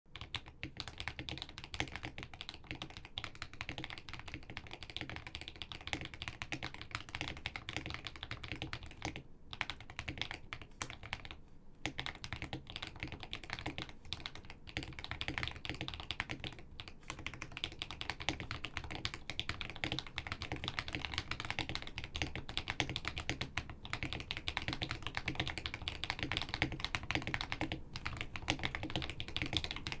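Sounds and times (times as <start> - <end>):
fast mechanical keyboard typing: 0.1 - 30.0.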